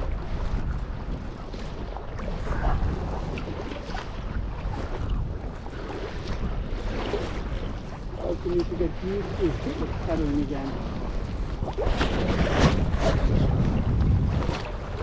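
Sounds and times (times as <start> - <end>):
canoe paddle splashes: 0.0 - 15.0
sea water washing: 0.0 - 15.0
wind buffeting microphone: 0.0 - 15.0.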